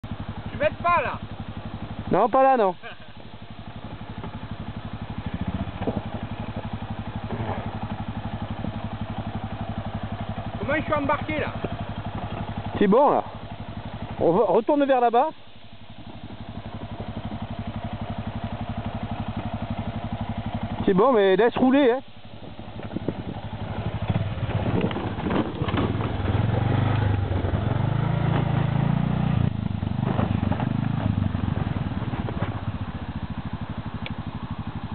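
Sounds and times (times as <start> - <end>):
quad engine running at low revs: 0.0 - 34.9.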